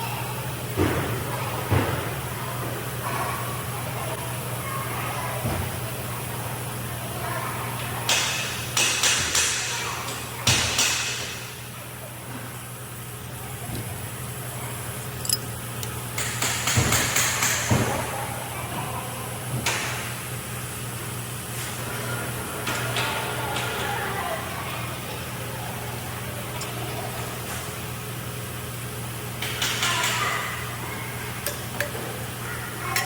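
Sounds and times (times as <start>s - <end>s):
steady low hum: 0.0s - 29.5s.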